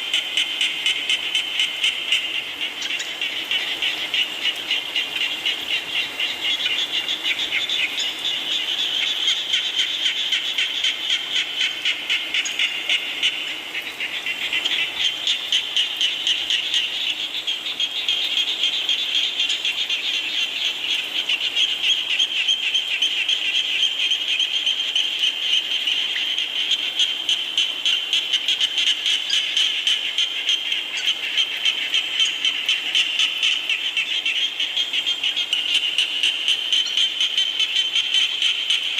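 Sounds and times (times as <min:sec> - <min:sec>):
chorus of frogs calling: 0:00.0 - 0:38.9.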